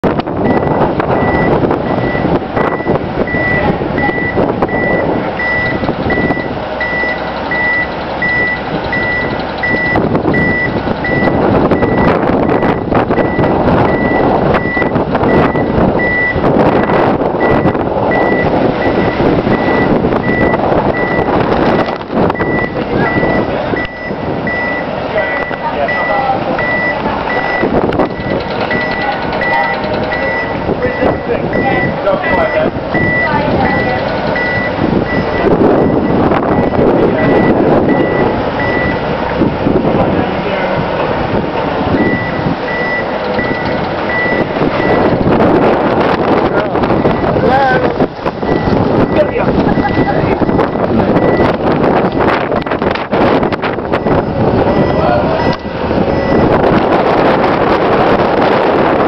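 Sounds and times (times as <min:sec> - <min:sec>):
forklift engine running: 0:00.0 - 0:59.0
reverse alarm beeping: 0:00.4 - 0:39.0, 0:41.9 - 0:58.5.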